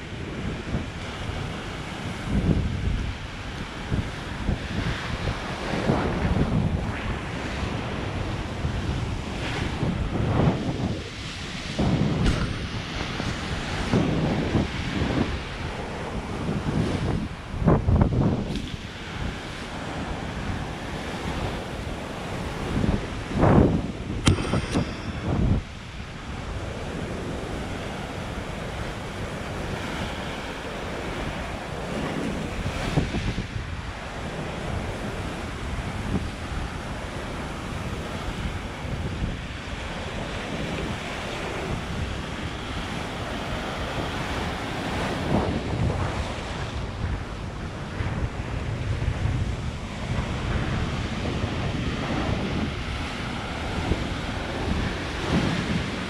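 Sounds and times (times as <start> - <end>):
wind buffeting microphone: 0.0 - 56.0
surf breaking over rocks: 3.9 - 56.0.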